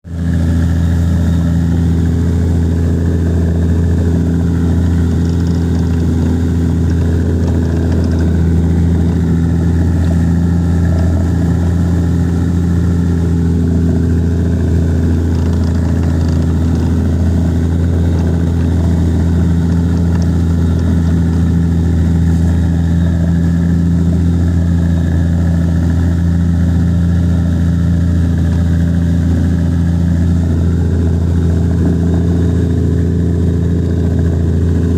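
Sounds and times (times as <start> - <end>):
engine droning steadily: 0.0 - 34.9.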